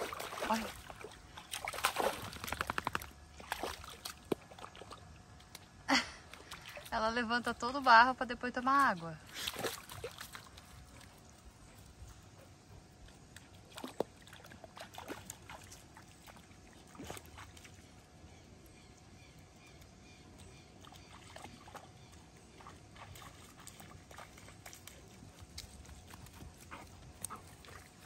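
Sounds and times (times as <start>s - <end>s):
dog sloshing in muddy water: 0.0s - 8.0s, 9.2s - 28.0s.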